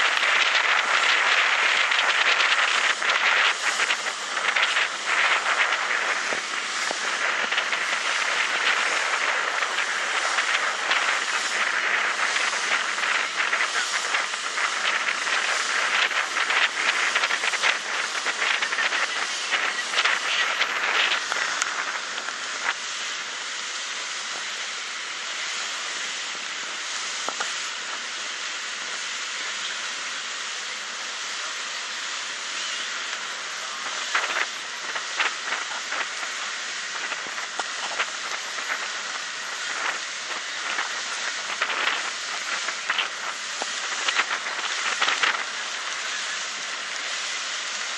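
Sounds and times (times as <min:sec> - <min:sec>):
crackly wind gusts: 0:00.0 - 0:47.9
rushing noise aboard ferry: 0:00.0 - 0:47.9.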